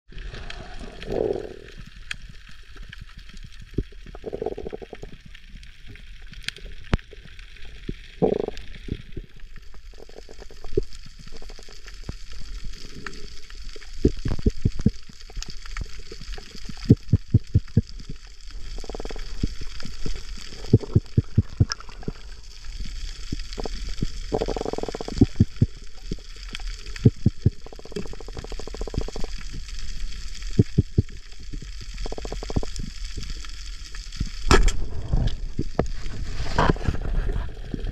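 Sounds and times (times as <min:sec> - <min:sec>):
sharp underwater clicks and crackles: 0:00.1 - 0:37.9
underwater low rumble and hiss: 0:00.1 - 0:37.9.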